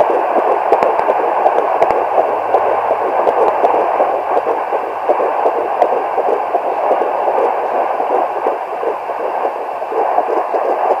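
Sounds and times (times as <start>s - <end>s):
fetal heartbeat whooshing pulse: 0.0s - 11.0s.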